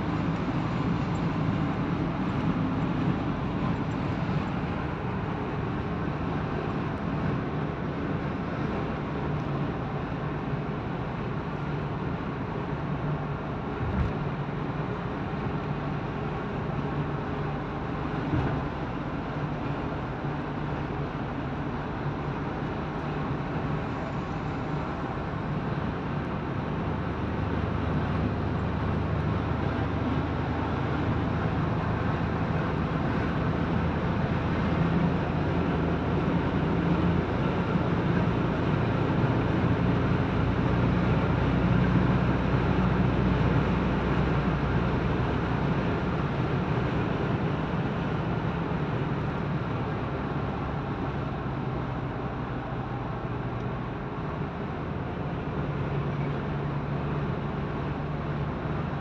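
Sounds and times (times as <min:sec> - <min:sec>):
car driving at highway speed: 0:00.0 - 0:59.0.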